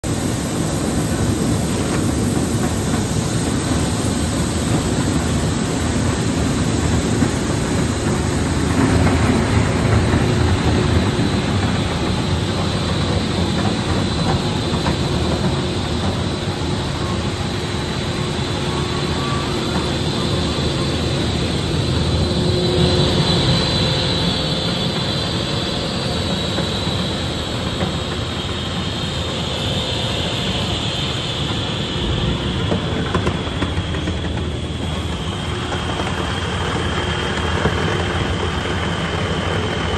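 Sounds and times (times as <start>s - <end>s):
high whine: 0.0s - 39.9s
loud machine noise: 0.0s - 39.9s.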